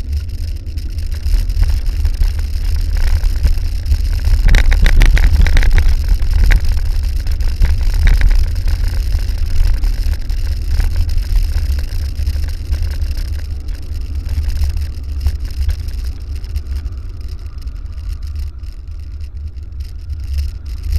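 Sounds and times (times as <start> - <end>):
bicycle clicks and rattles: 0.0 - 20.9
wind rumbling on microphone: 0.0 - 20.9.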